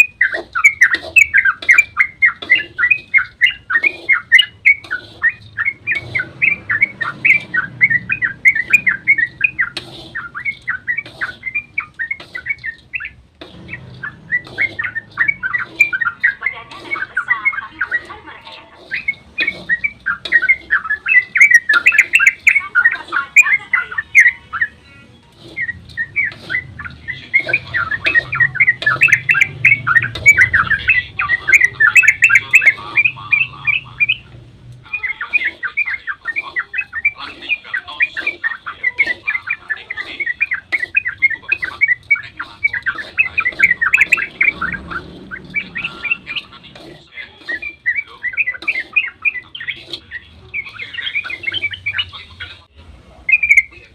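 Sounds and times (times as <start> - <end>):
bulbul singing: 0.0 - 53.9.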